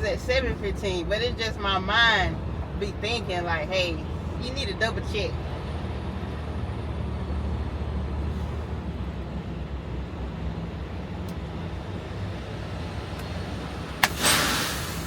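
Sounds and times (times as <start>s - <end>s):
diesel truck engine humming: 0.0s - 15.0s.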